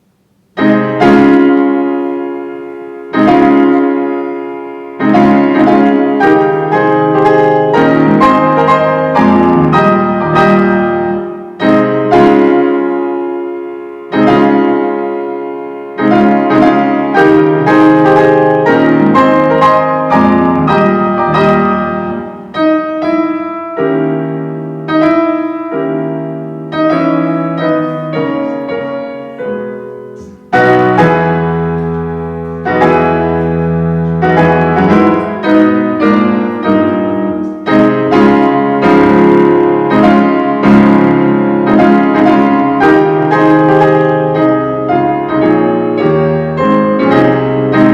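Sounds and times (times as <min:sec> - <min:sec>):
solo piano piece: 0:00.0 - 0:47.9.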